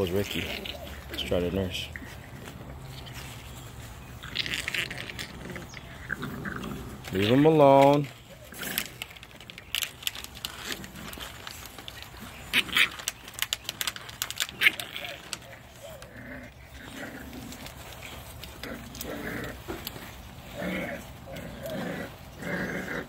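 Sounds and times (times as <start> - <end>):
puppies scuffling clicks and knocks: 0.0 - 22.4
puppy vocalizations: 0.0 - 23.0.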